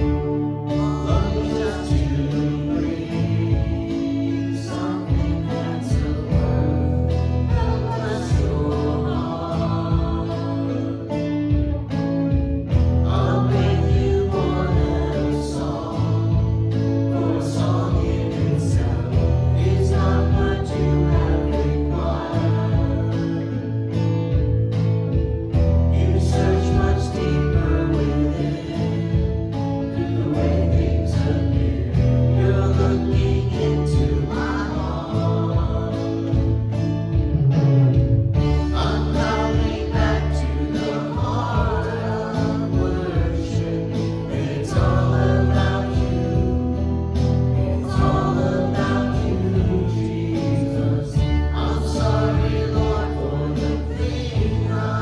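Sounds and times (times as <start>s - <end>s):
voices singing together: 0.0s - 37.4s, 38.3s - 55.0s.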